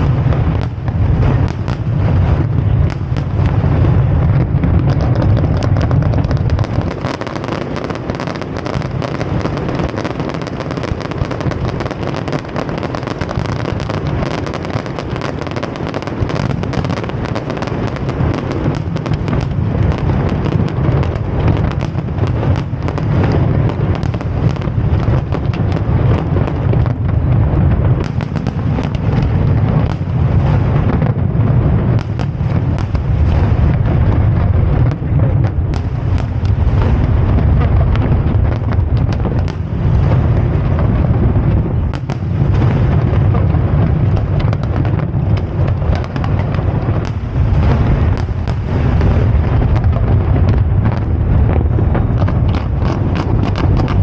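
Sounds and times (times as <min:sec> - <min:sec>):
fireworks booming: 0:00.0 - 0:54.0
fireworks cracking and banging: 0:00.0 - 0:54.0.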